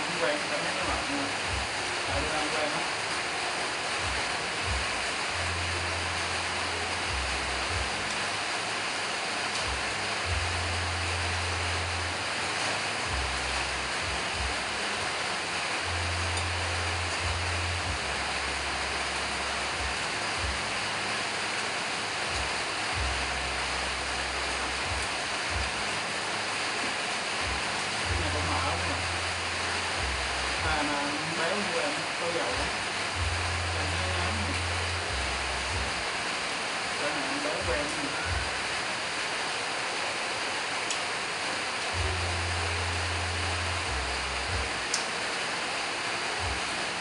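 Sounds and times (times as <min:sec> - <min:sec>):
steady rushing noise: 0:00.0 - 0:47.0.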